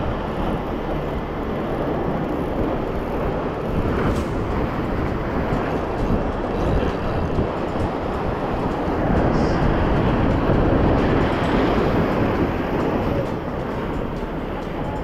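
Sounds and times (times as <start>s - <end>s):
surf: 0.0s - 15.0s
wind: 0.0s - 15.0s.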